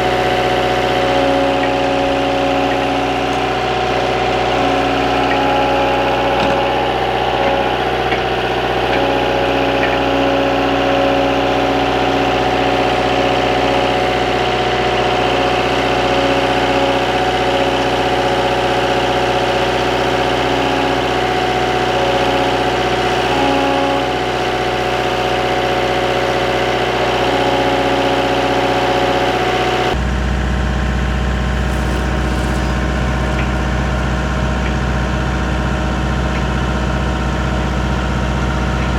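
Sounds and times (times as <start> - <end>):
skid steer engine running: 0.0 - 38.9.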